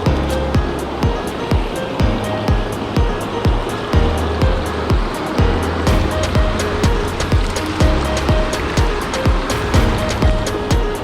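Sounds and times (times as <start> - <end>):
kick drum beat: 0.0 - 11.0.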